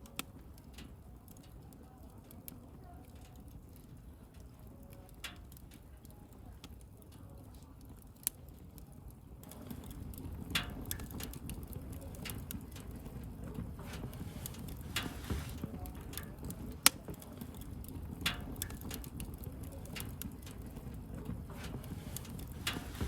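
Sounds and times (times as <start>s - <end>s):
wood bonfire crackling: 0.0s - 23.0s.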